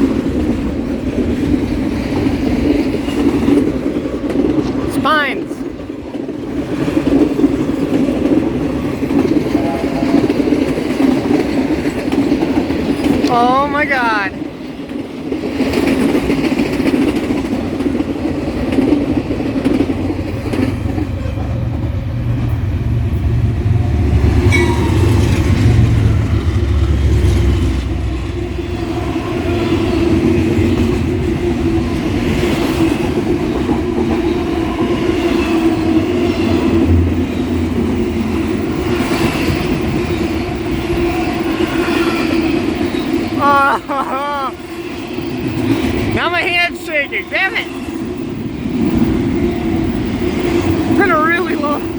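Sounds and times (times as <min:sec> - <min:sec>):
train passing with heavy rumble: 0:00.0 - 0:51.9
wheels clattering over rails: 0:05.6 - 0:13.7, 0:14.4 - 0:22.6, 0:23.6 - 0:51.9.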